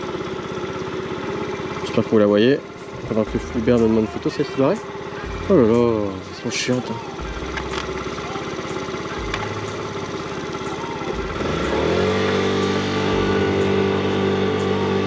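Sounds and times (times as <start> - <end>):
motor scooter engine revving: 0.0 - 15.0.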